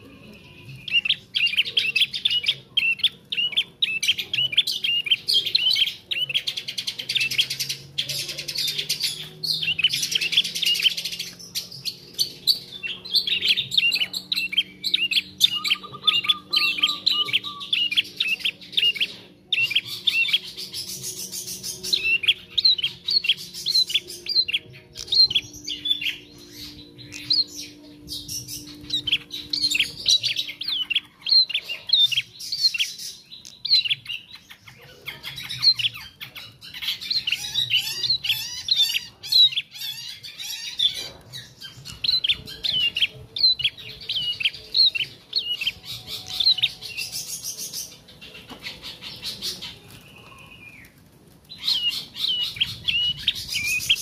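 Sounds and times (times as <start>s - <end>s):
bird high chirps: 0.0s - 54.0s.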